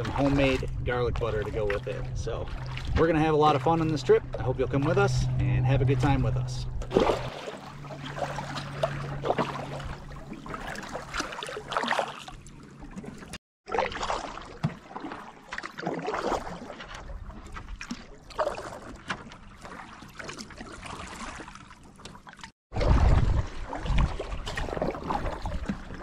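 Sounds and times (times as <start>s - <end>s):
paddle splashing in water: 0.0s - 5.3s, 6.8s - 26.0s
water lapping against hull: 0.0s - 26.0s.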